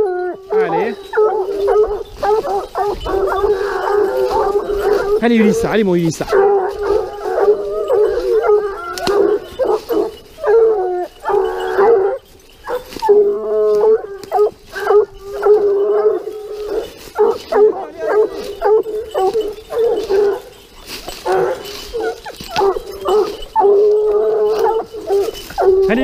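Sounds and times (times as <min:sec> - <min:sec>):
hounds baying and howling: 0:00.0 - 0:26.0.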